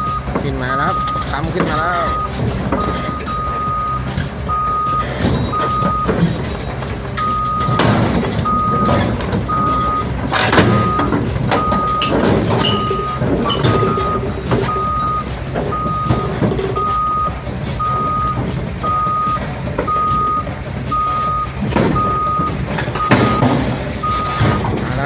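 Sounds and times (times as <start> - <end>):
diesel engine running under load: 0.0 - 25.0
steel tracks clanking: 0.0 - 25.0
warning beeper: 0.0 - 25.0.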